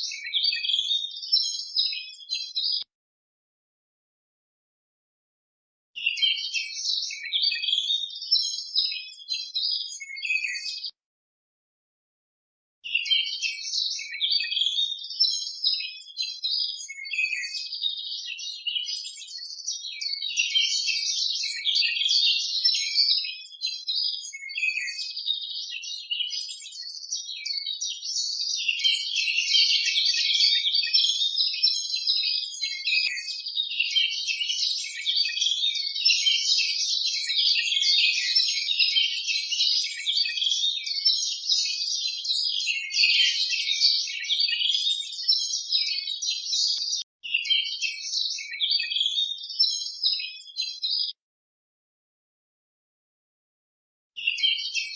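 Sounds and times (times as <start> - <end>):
birds chirping and singing: 0.0 - 2.9, 6.0 - 10.9, 12.9 - 51.2, 54.2 - 54.9.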